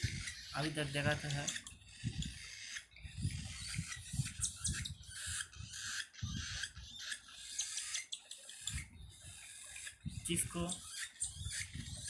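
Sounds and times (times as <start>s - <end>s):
cockatiel chicks calling: 0.0s - 12.0s.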